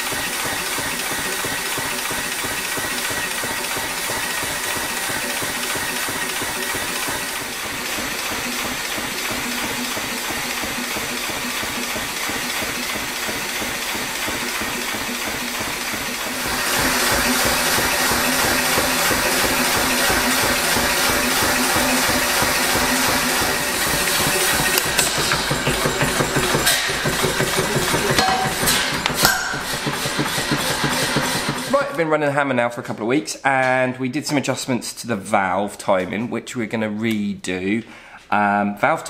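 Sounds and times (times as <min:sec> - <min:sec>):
power hammer motor chugging: 0:00.0 - 0:32.0.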